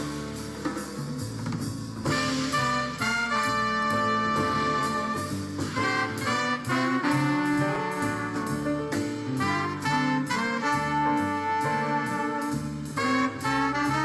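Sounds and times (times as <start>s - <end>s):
steady drum beat: 0.0s - 14.0s
sustained horn-like melody: 2.1s - 14.0s.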